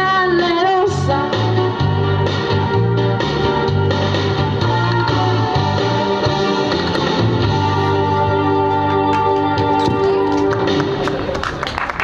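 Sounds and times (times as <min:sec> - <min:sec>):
bass line: 0:00.0 - 0:11.3
guitar: 0:00.0 - 0:11.6.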